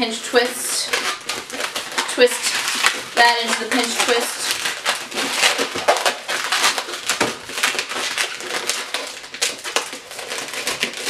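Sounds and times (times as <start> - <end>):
balloons squeaking and rubbing: 0.0 - 11.0.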